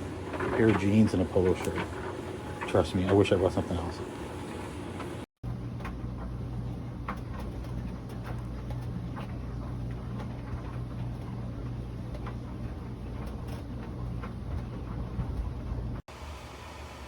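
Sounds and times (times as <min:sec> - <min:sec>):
clothes dryer motor hum: 0:00.0 - 0:17.0.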